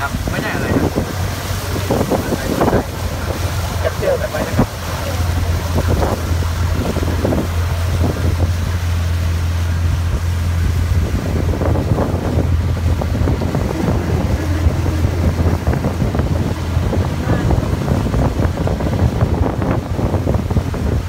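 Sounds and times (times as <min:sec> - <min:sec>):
boat engine droning: 0:00.0 - 0:21.0
wind buffeting microphone: 0:00.0 - 0:21.0.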